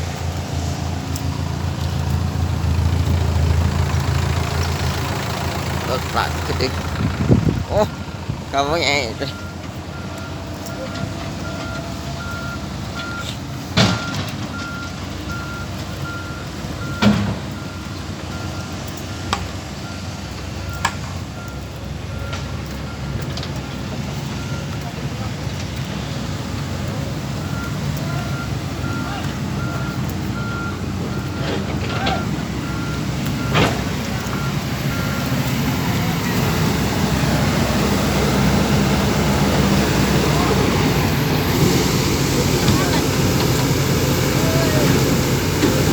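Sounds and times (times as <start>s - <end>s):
backhoe engine running: 0.0s - 45.9s
reversing alarm beeping: 0.1s - 45.9s.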